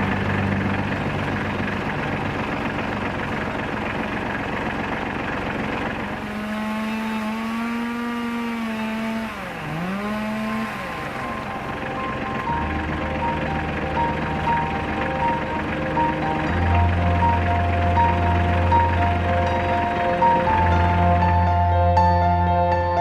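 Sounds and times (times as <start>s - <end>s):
pitched engine note: 0.0s - 23.0s
small engine droning: 0.0s - 23.0s.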